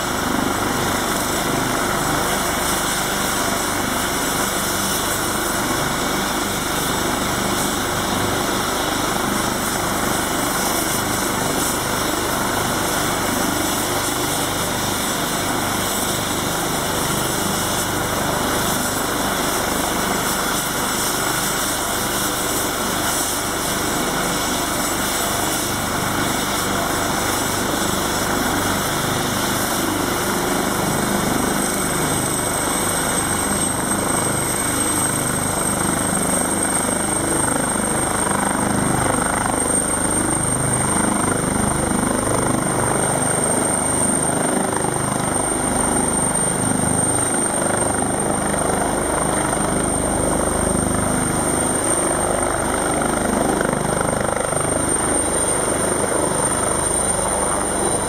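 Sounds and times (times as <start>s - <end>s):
helicopter engines and rotor running: 0.0s - 58.0s.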